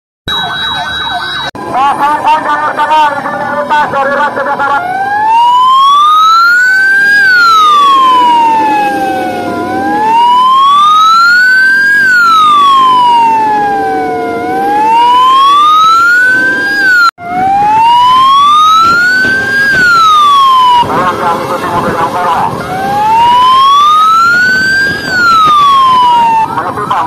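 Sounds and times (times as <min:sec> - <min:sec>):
fire engine siren wailing: 0:00.3 - 0:27.0.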